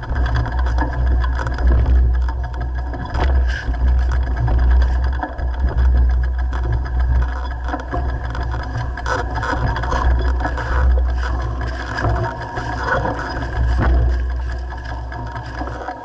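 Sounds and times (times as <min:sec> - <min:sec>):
bike rattles and clicks: 0:00.0 - 0:16.0
tyres rumbling on dirt: 0:00.0 - 0:16.0.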